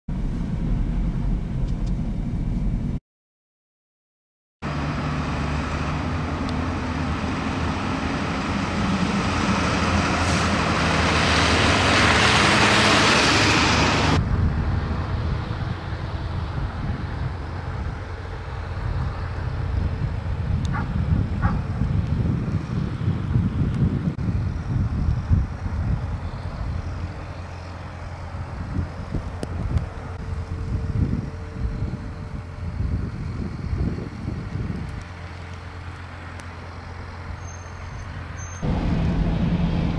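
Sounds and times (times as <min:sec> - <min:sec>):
heavy vehicle engine drone: 0:00.1 - 0:03.0, 0:04.6 - 0:39.9.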